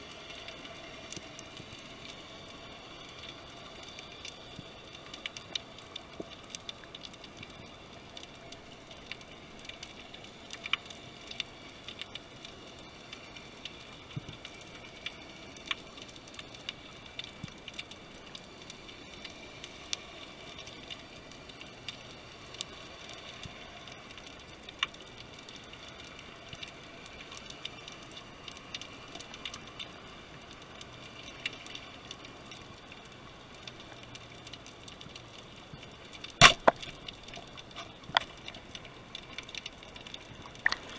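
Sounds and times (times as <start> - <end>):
sharp clicks and crackles: 0.0 - 40.9
underwater low hiss: 0.0 - 40.9.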